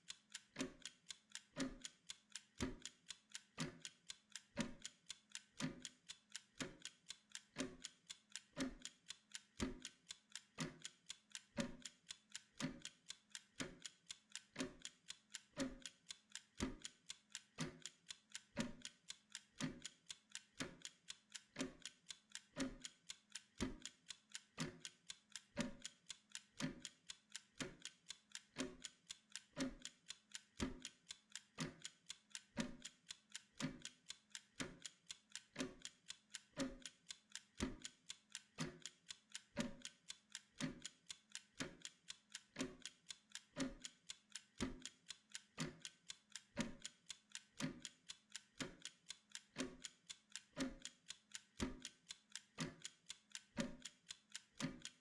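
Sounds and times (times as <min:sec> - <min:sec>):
mechanical kitchen timer ticking: 0:00.0 - 0:55.0.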